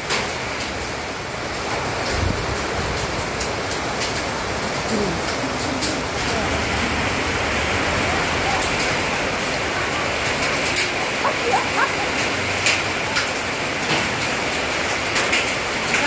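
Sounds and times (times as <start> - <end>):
floodwater rushing: 0.0 - 16.0
heavy rain: 0.0 - 16.0.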